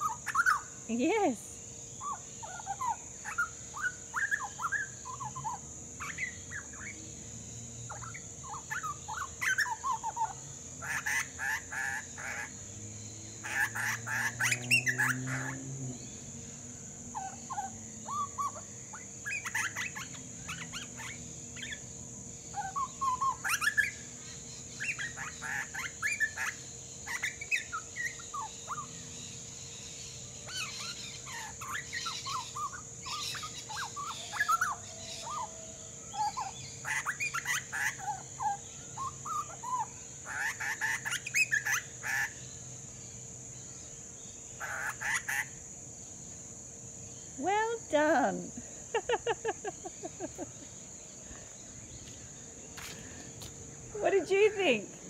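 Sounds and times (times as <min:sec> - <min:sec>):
bird warbling song: 0:00.0 - 0:46.2.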